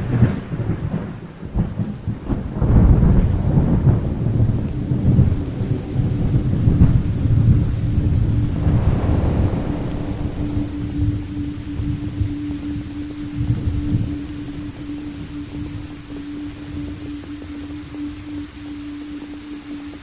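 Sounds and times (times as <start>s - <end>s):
steady rain: 0.0s - 20.0s
thunder rumbling: 0.0s - 20.0s
faint steady tone: 2.7s - 20.0s.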